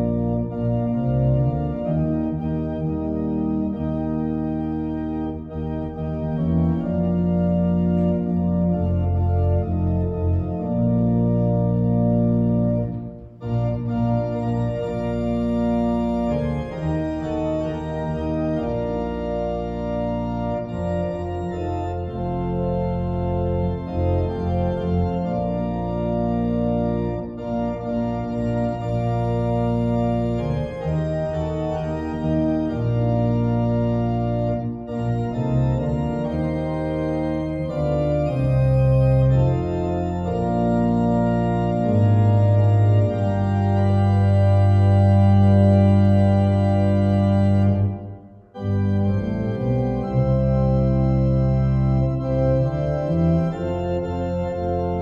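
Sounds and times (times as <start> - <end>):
organ playing slow chords: 0.0 - 55.0.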